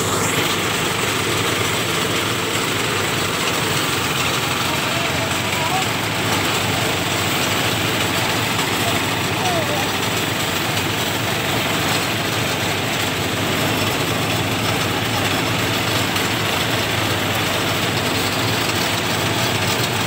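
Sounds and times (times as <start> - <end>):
rice thresher running: 0.0 - 20.0.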